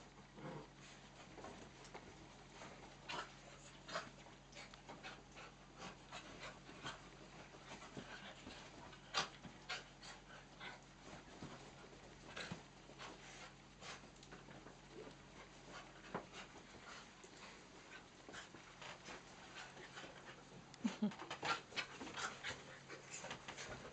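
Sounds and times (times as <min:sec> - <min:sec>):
dogs play-wrestling: 0:00.1 - 0:23.9
small dogs panting: 0:00.7 - 0:23.9.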